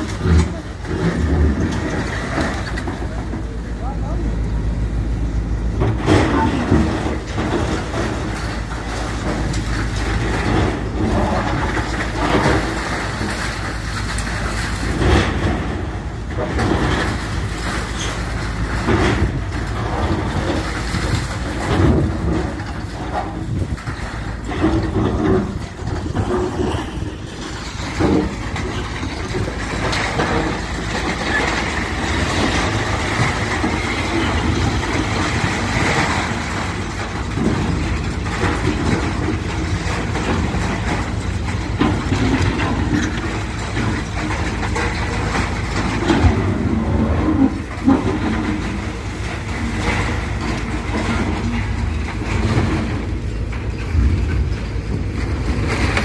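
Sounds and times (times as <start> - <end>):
heavy demolition machinery running: 0.0 - 56.0
masonry knocking and crashing: 5.7 - 56.0.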